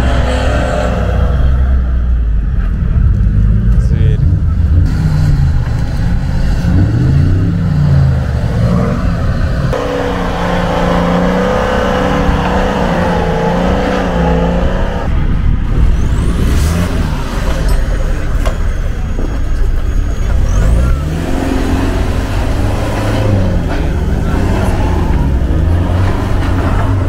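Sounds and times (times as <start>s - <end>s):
off-road engines revving: 0.0s - 27.0s.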